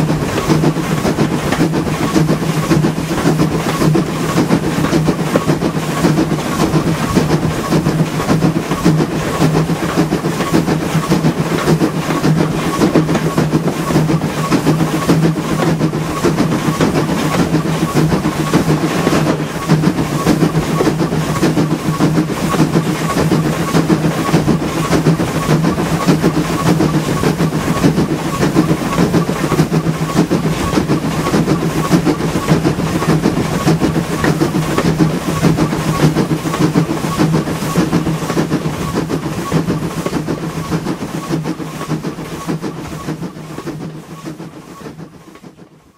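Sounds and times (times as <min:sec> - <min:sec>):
steam locomotive exhaust beats: 0:00.0 - 0:45.9
wheels clattering on rails: 0:00.0 - 0:45.9.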